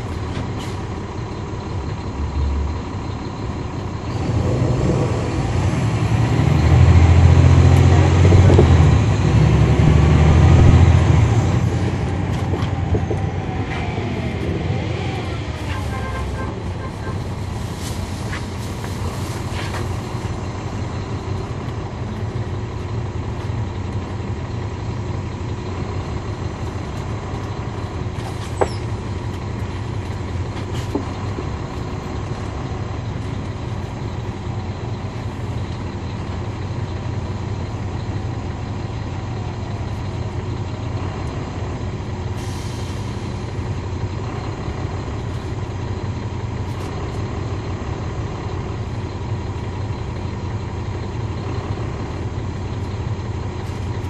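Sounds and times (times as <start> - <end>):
bus engine pulling hard: 0.0 - 54.0.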